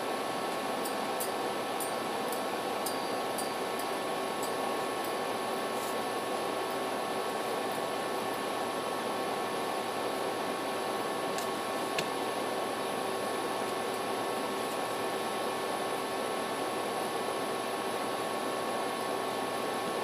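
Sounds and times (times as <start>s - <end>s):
fan hiss and hum: 0.0s - 20.0s.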